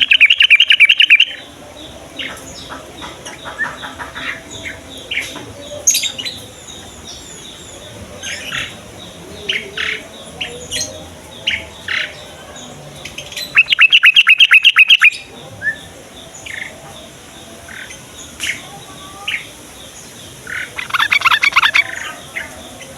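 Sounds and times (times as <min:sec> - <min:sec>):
bulbuls chirping: 0:00.0 - 0:22.9.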